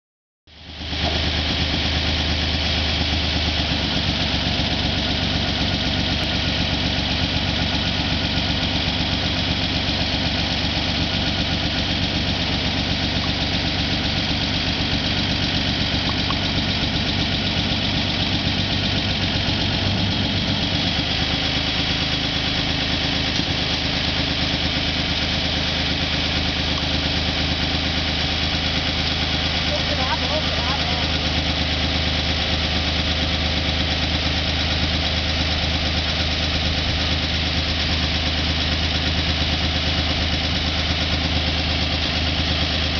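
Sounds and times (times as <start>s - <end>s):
truck engine idling: 0.5s - 42.9s.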